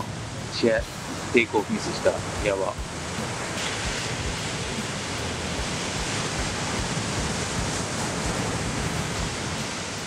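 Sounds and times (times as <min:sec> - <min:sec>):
ocean surf breaking: 0:00.0 - 0:10.0
wind rumble on microphone: 0:00.0 - 0:10.0.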